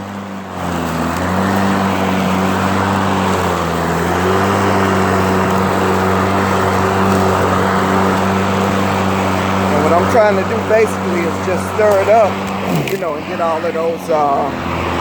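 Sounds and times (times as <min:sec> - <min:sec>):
lawn mower running: 0:00.0 - 0:15.0
rushing noise of raked grass: 0:00.0 - 0:15.0.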